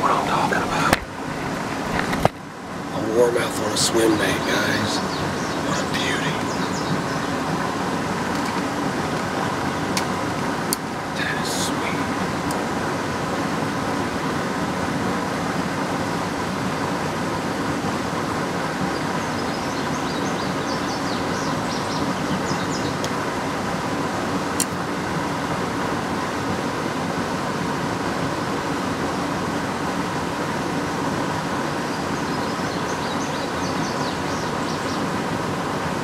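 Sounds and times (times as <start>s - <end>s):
water rushing through spillway: 0.0s - 36.0s.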